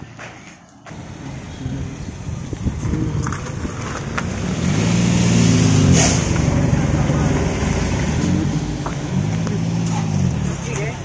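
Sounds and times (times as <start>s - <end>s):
van engine running: 0.9s - 11.0s.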